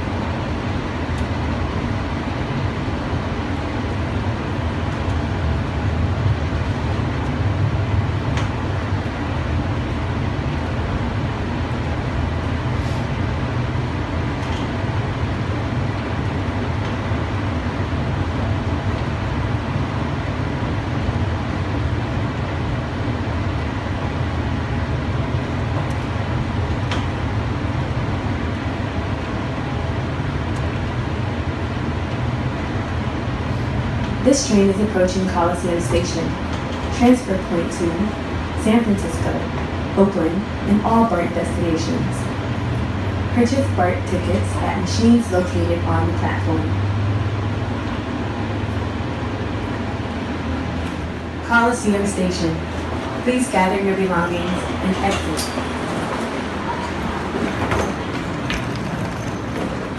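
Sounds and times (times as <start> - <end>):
people-mover car rumbling: 0.0 - 59.9.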